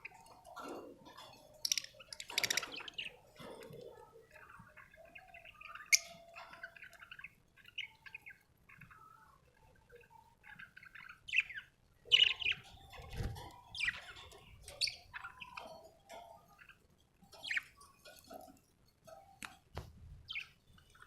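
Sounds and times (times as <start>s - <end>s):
budgerigars chirping and chattering: 0.0s - 19.6s, 20.3s - 21.0s.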